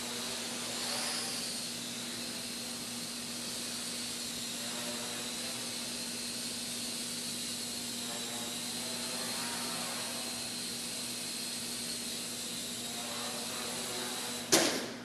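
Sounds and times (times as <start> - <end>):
quadcopter propellers whirring: 0.0 - 15.0.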